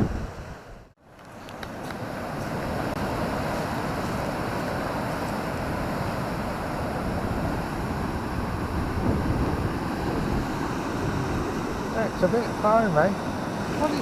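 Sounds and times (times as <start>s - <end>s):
wind buffeting microphone: 0.0s - 0.9s, 2.0s - 14.0s
sea surf washing onto beach: 0.0s - 14.0s.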